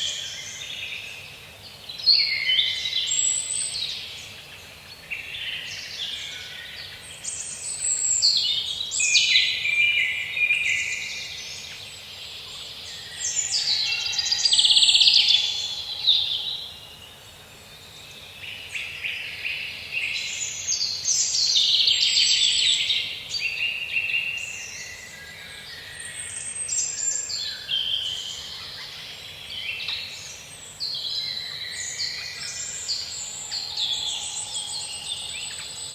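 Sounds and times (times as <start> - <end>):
songbirds singing: 0.0 - 35.9.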